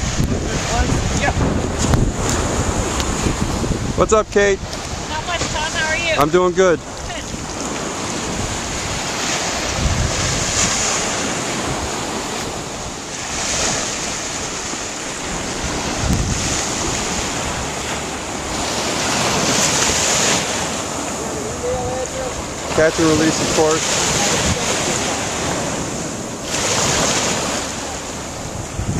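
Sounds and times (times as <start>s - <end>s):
small waves washing on beach: 0.0s - 28.9s
wind buffeting microphone: 0.0s - 28.9s.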